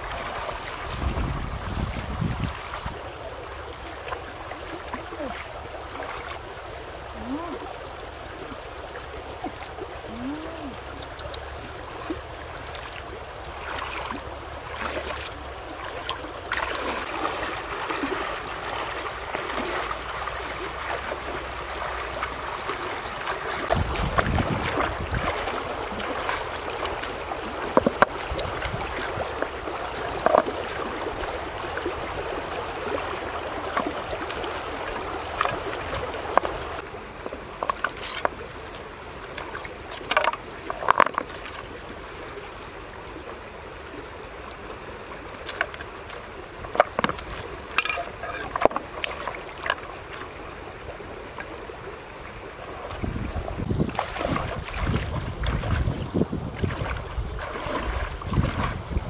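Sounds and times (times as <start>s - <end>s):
water splashing around wading legs: 0.0s - 59.0s.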